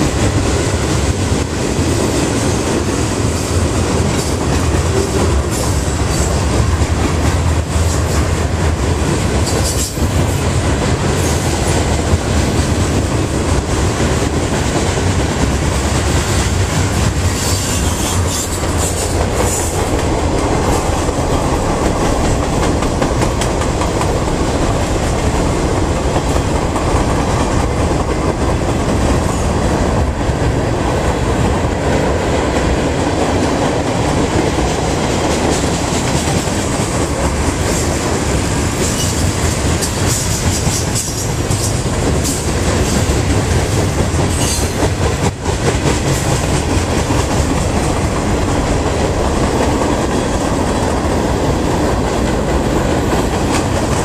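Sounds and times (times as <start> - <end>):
freight cars rumbling: 0.0 - 54.0
steel wheels clattering over rail joints: 0.0 - 54.0.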